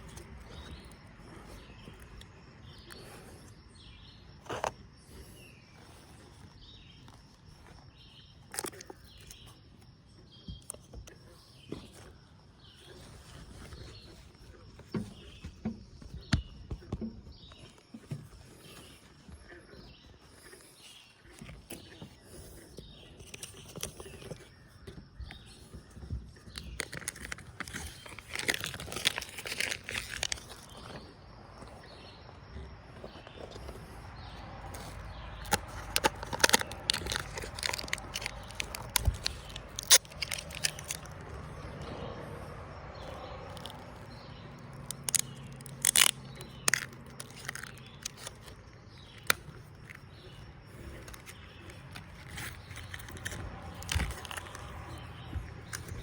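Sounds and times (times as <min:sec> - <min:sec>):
crinkling and scraping: 0:00.0 - 0:56.0
outdoor ambience: 0:00.0 - 0:56.0.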